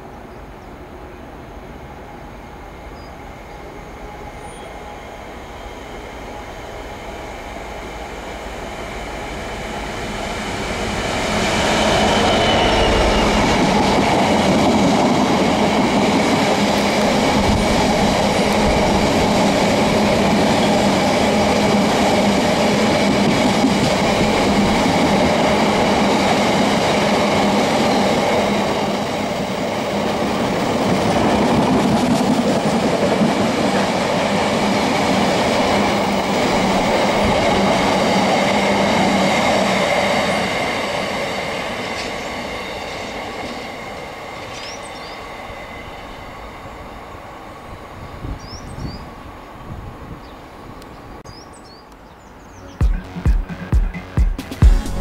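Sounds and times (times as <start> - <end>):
freight train wheels rumbling: 1.2 - 50.9.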